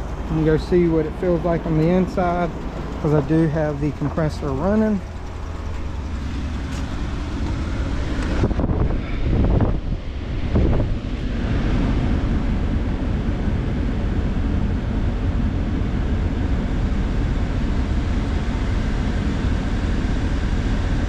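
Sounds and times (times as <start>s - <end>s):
air rushing from vents: 0.0s - 21.0s
truck engine idling: 0.0s - 21.0s.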